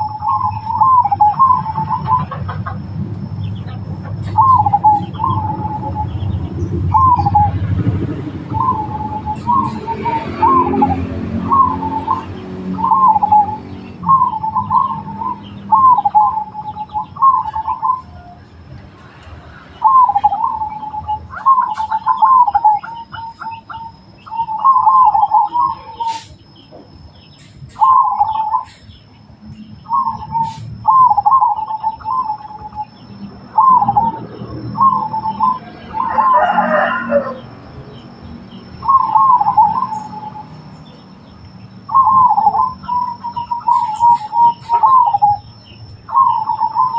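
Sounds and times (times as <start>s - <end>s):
dove cooing: 0.0s - 18.4s, 19.8s - 26.3s, 27.8s - 28.8s, 29.9s - 37.5s, 38.7s - 40.6s, 41.8s - 46.9s.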